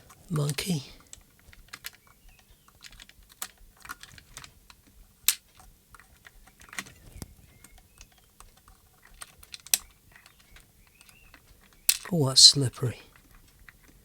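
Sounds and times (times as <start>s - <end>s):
hard plastic clicks and taps: 0.0s - 12.2s.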